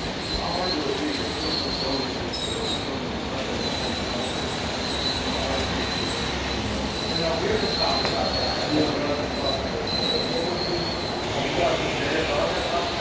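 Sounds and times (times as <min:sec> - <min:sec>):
model trains rolling on track: 0:00.0 - 0:13.0
thin high whine: 0:00.0 - 0:13.0.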